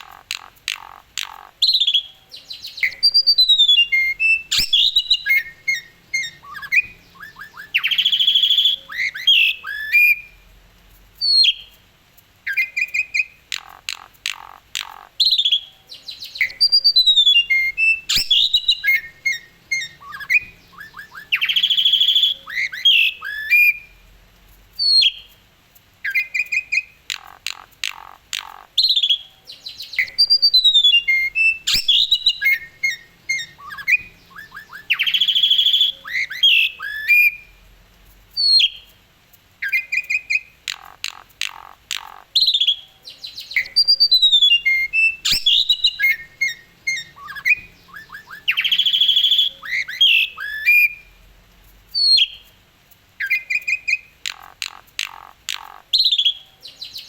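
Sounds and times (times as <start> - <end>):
starling singing: 0.0 - 10.4, 12.4 - 24.0, 26.0 - 37.6, 39.6 - 51.2, 53.2 - 57.0.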